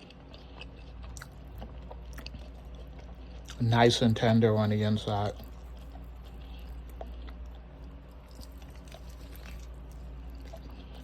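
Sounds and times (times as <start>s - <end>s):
low steady hum: 0.0s - 11.0s
person chewing crispy food: 0.0s - 11.0s.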